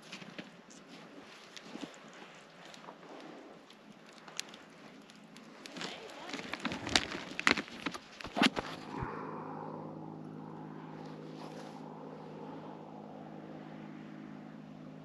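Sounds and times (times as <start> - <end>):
engine running steadily: 1.6 - 15.0.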